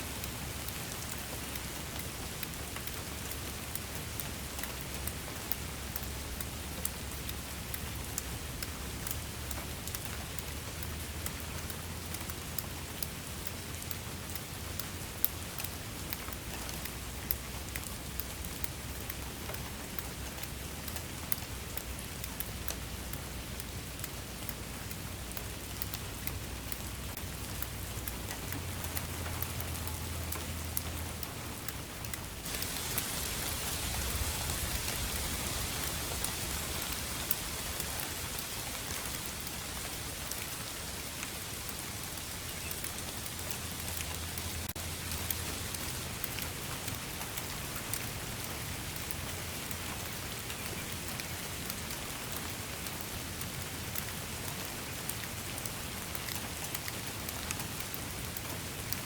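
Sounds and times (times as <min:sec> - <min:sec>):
rain falling on a surface: 0:00.0 - 0:59.0.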